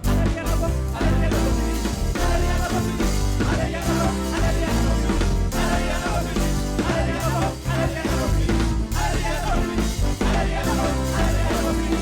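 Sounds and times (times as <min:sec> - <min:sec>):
live band playing upbeat song: 0:00.0 - 0:12.0
person singing: 0:00.0 - 0:12.0.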